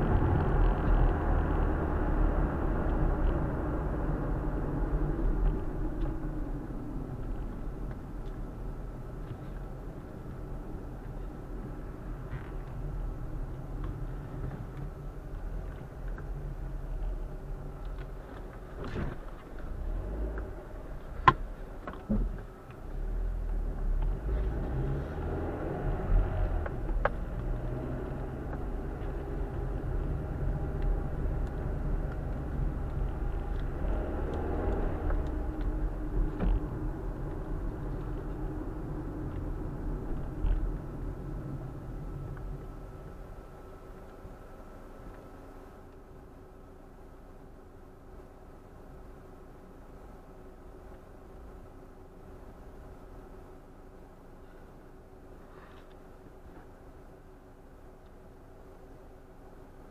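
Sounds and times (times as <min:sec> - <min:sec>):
car driving interior rumble: 0:00.0 - 0:59.9.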